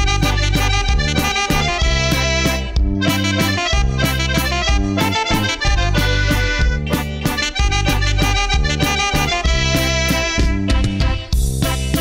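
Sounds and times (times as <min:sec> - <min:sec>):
drums with steady beat: 0:00.0 - 0:12.0
electric bass guitar: 0:00.0 - 0:12.0
saxophone melody: 0:00.0 - 0:12.0.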